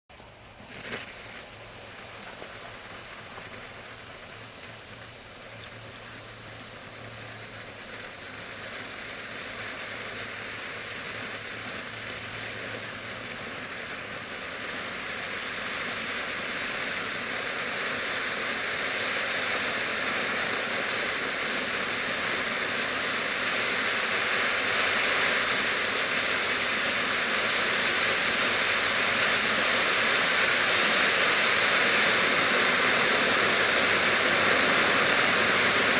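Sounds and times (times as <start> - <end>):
firework fountain hissing: 0.1 - 35.9.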